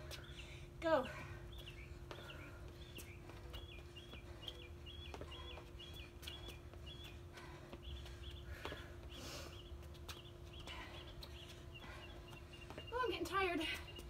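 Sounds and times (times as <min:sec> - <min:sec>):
songbird chirping: 0:00.0 - 0:14.0
sneakers tapping on concrete: 0:01.1 - 0:14.0.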